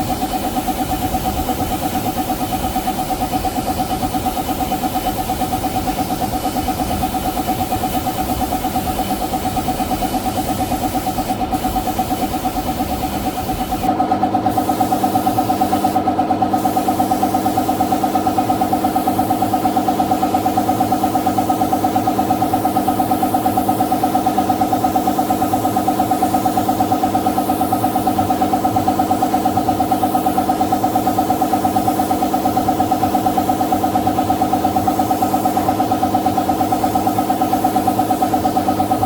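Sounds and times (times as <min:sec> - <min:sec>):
engine throbbing steadily: 0:00.0 - 0:39.0.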